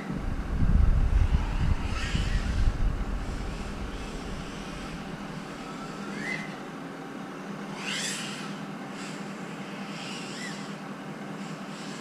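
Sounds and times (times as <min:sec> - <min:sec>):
quadcopter motors whirring: 0:00.0 - 0:06.7, 0:07.6 - 0:12.0.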